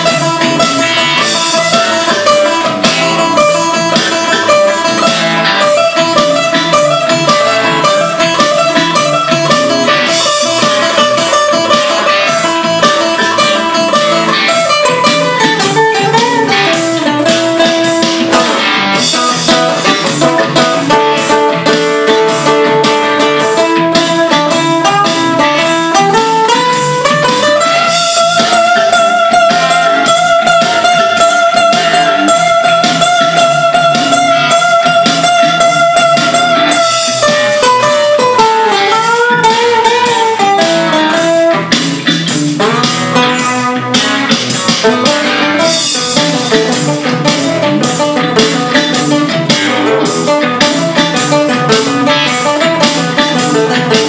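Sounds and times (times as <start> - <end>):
acoustic guitar picking: 0.0 - 54.0.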